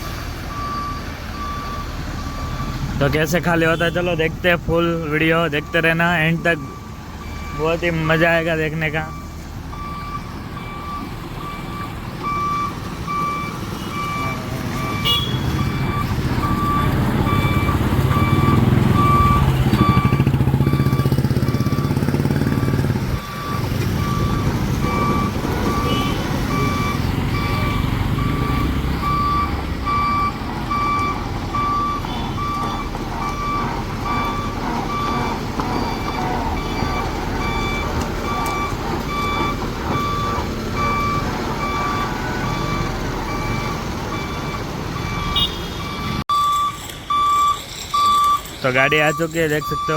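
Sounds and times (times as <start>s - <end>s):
diesel engine rumble: 0.0s - 49.9s
truck reversing alarm beeping: 0.0s - 49.9s.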